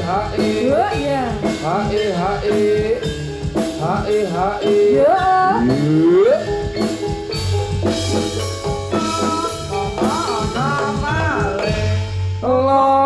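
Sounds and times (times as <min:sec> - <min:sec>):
gamelan music: 0:00.0 - 0:12.5.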